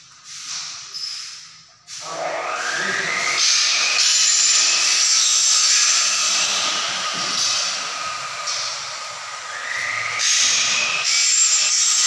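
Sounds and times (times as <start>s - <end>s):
power tool whine: 2.0s - 12.0s.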